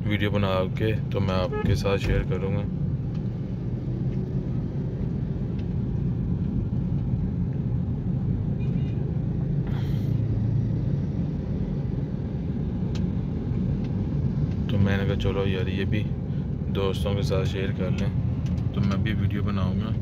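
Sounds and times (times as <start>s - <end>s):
road rumble inside car cabin: 0.0s - 20.0s.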